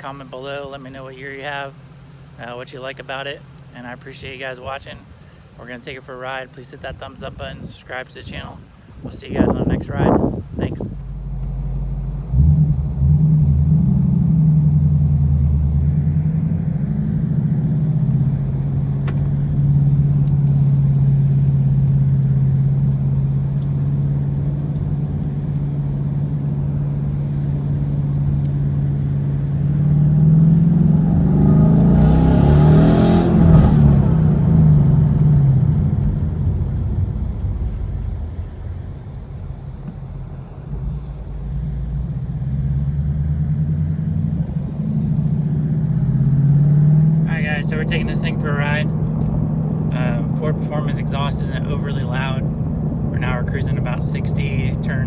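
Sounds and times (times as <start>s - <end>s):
car engine running: 0.0s - 6.0s, 9.3s - 55.0s.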